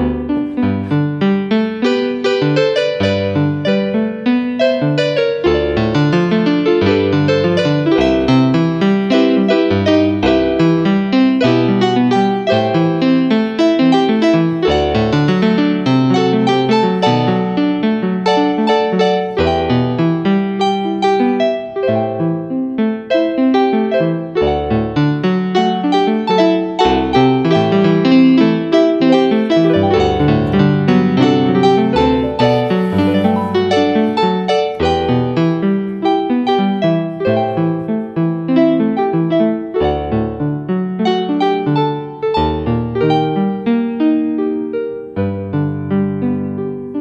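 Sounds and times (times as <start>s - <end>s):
piano playing quick notes: 0.0s - 47.0s.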